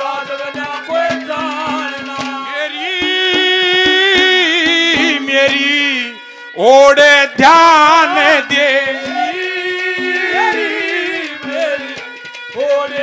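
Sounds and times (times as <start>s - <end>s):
hand-drum strokes: 0.0s - 6.2s, 7.4s - 13.0s
man singing into a microphone: 0.0s - 13.0s
steady held instrumental tone: 0.0s - 13.0s.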